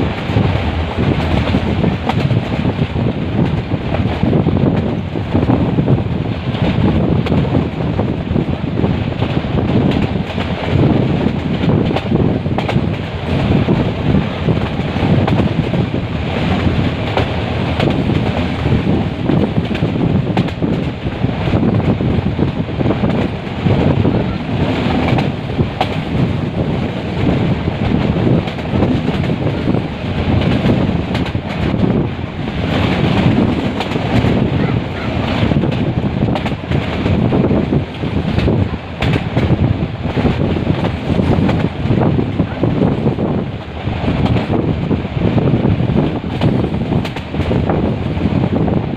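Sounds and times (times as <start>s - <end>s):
train wheels rumbling on track: 0.0s - 48.9s
wind buffeting microphone: 0.0s - 48.9s.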